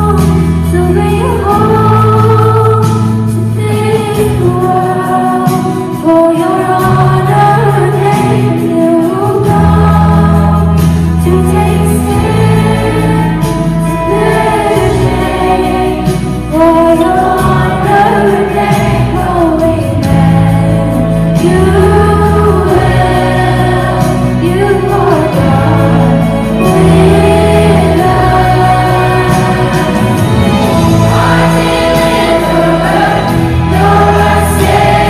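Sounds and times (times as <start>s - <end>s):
instrumental accompaniment: 0.0s - 35.0s
youth choir singing: 0.0s - 35.0s.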